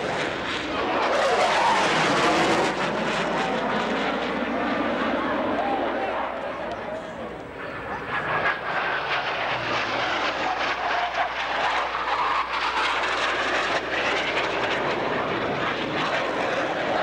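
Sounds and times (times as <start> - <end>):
jet roar with whine: 0.0 - 17.0.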